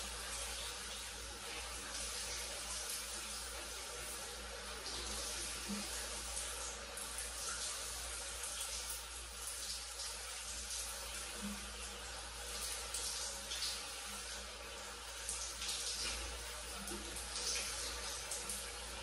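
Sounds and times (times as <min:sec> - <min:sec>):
shower water spraying and splashing: 0:00.0 - 0:19.0.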